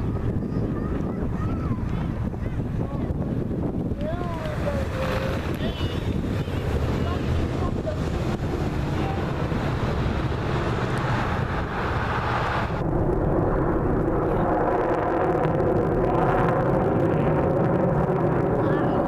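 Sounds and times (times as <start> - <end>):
airplane engine droning: 3.4 - 19.0.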